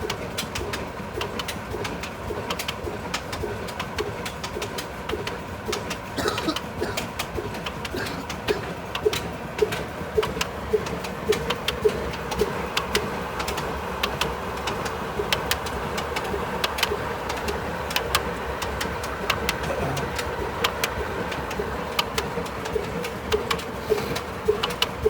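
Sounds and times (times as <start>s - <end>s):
sharp ticks: 0.0s - 25.0s
diesel engine running: 4.5s - 25.0s.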